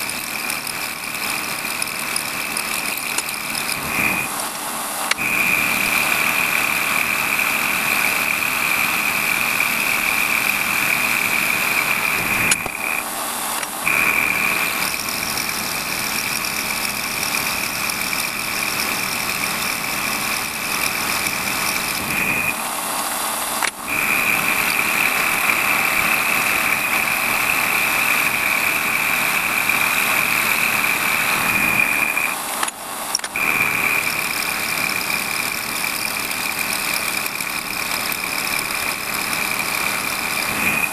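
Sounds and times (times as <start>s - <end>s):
lathe milling metal whine: 0.0s - 40.9s.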